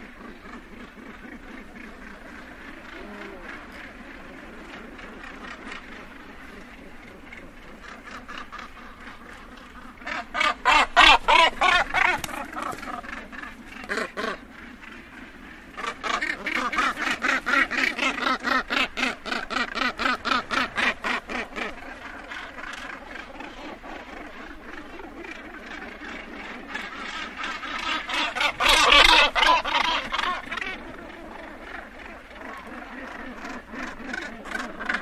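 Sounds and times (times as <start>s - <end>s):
gannet colony calling: 0.0s - 35.0s
gannets harsh calls: 0.0s - 35.0s.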